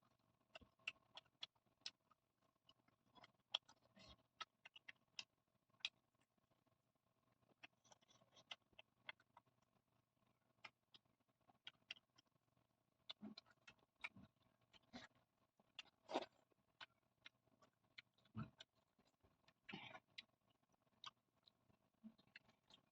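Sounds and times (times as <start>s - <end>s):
faint steady hum: 0.0s - 22.9s
soft chewing: 0.0s - 22.9s.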